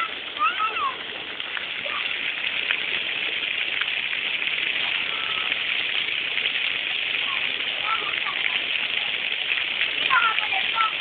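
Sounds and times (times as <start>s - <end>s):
small water splashes: 0.0s - 11.0s
waterfall rushing: 0.0s - 11.0s.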